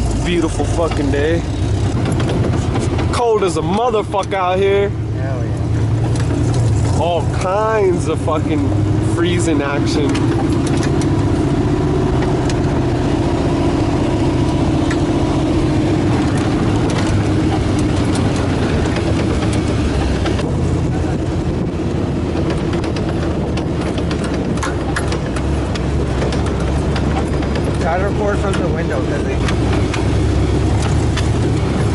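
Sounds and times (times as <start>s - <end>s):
engine running steadily: 0.0s - 31.9s.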